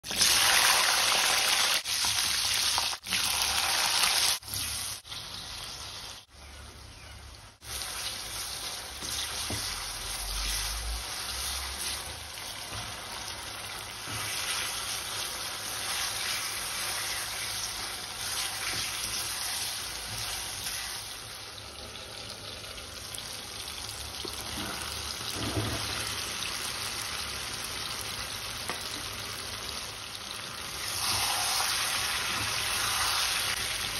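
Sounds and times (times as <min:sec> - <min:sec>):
vegetables sizzling in hot oil: 0:00.0 - 0:06.3, 0:07.6 - 0:33.9.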